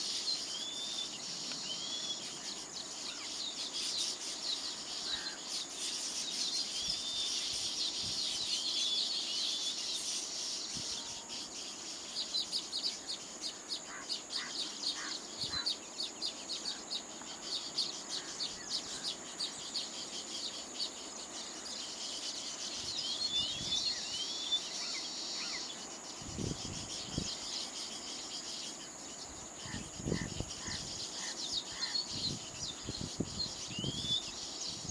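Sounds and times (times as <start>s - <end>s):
birds chattering and chirping: 0.0s - 34.9s
high insect drone: 0.0s - 34.9s.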